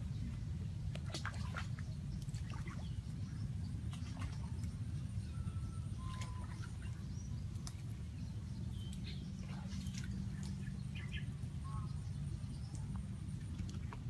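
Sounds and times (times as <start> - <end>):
steady low rumble: 0.0 - 14.0
faint bird chirps: 1.4 - 14.0.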